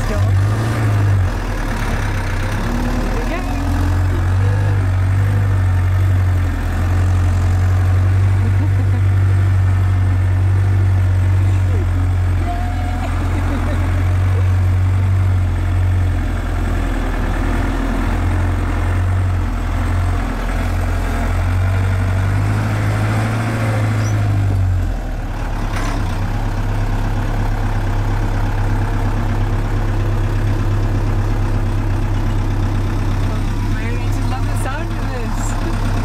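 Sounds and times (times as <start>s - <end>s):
bus engine droning: 0.0s - 36.0s.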